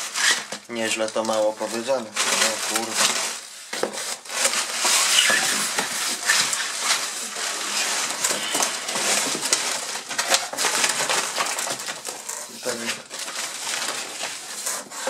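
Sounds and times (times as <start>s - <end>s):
cardboard scraping: 0.0s - 15.0s
plastic packing rustling: 0.0s - 15.0s.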